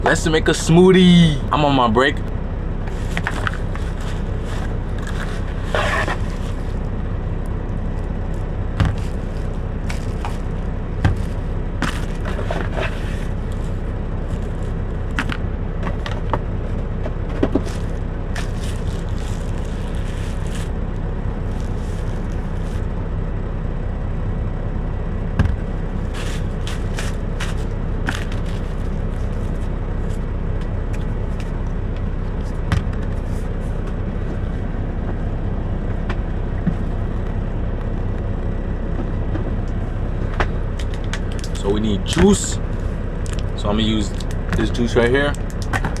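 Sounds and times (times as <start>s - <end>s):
truck engine idling hum: 0.0s - 46.0s.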